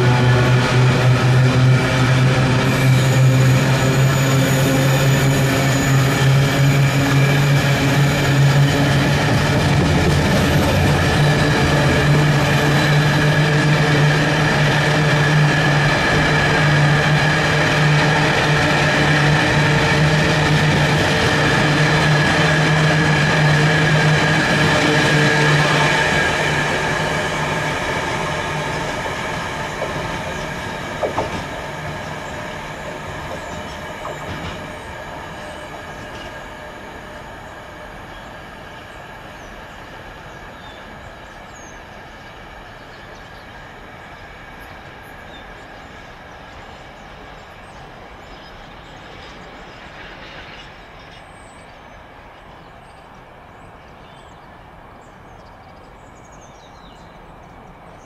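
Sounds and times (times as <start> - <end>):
train wheels squealing on rail: 0.0 - 58.0.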